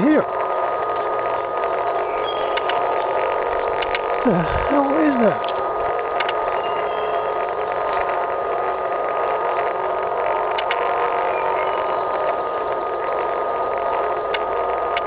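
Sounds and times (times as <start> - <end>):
steady droning hum overhead: 0.0 - 15.0.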